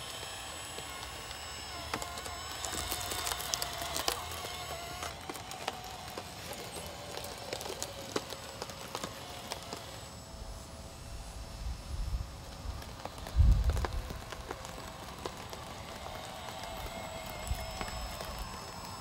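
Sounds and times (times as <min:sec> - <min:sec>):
tracks and clods clattering: 0:00.0 - 0:10.2, 0:12.2 - 0:19.0
electric motors whining: 0:00.0 - 0:19.0.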